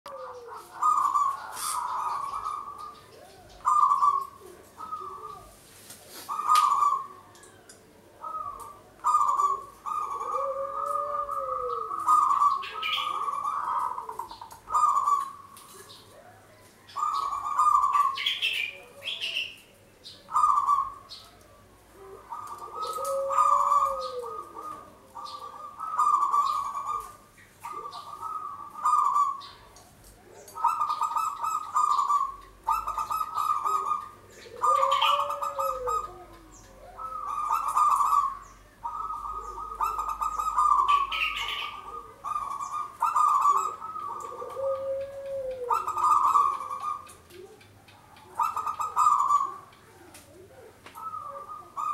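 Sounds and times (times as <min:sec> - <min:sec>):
dove cooing: 0:00.1 - 0:51.9.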